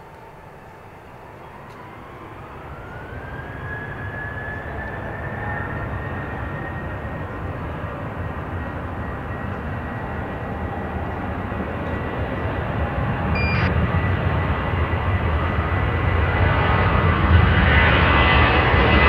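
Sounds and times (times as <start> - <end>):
jet engines at takeoff power: 0.0 - 19.0.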